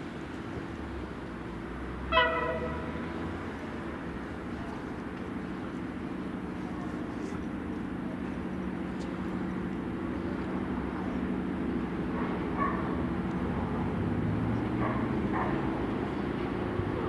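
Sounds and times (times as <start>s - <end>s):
diesel locomotive engine humming: 0.0s - 17.0s.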